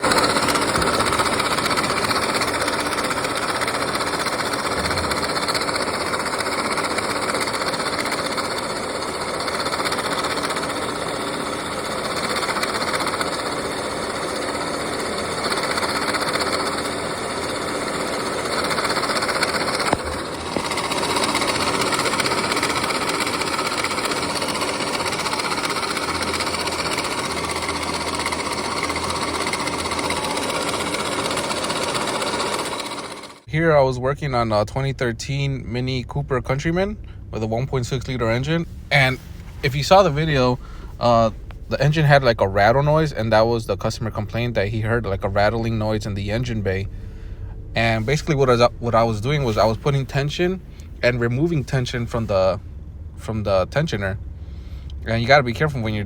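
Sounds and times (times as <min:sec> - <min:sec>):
car engine running with rattle: 0:00.0 - 0:56.0.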